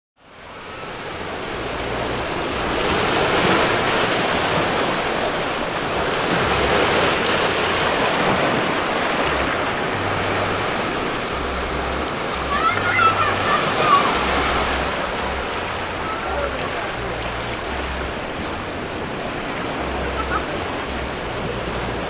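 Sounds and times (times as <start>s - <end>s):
waves breaking on rocky shore: 0.3s - 22.0s.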